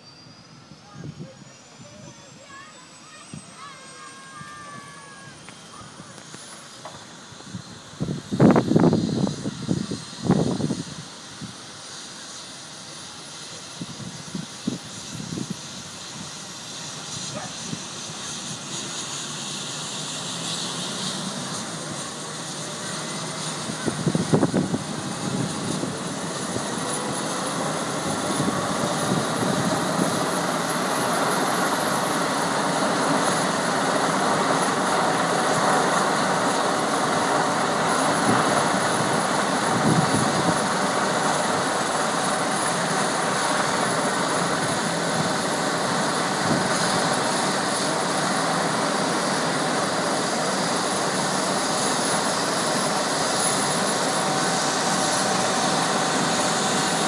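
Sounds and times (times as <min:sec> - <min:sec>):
helicopter engines and rotors: 0:00.0 - 0:57.0.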